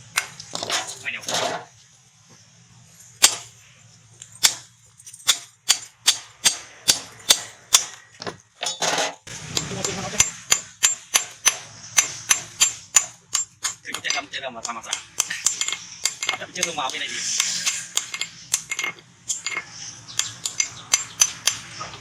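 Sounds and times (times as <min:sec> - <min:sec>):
hammer striking metal on anvil: 0:03.2 - 0:03.5, 0:04.4 - 0:22.0.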